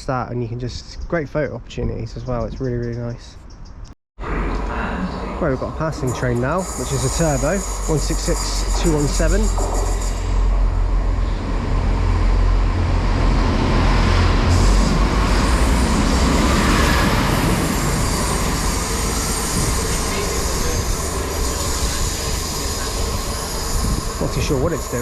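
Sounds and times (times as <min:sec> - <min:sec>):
diesel train passing: 0:03.7 - 0:25.0.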